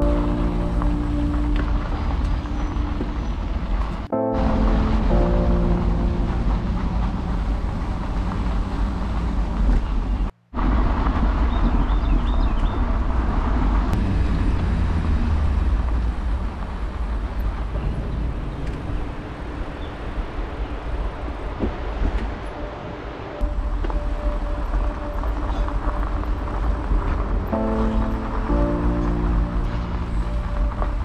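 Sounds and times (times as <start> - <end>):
bicycle tyres rolling on gravel: 0.0 - 22.5, 23.4 - 31.0.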